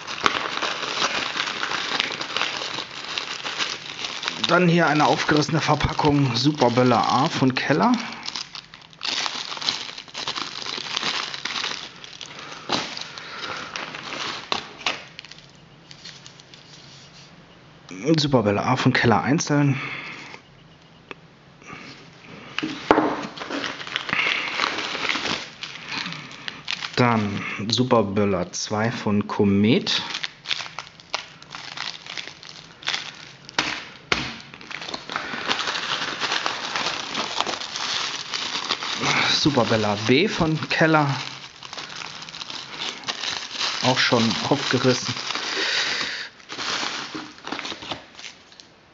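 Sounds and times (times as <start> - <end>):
paper wrapper rustling: 0.0 - 17.3, 22.0 - 27.5, 29.7 - 48.7
plastic bag crinkling: 0.0 - 17.3, 22.0 - 27.9, 29.7 - 48.8.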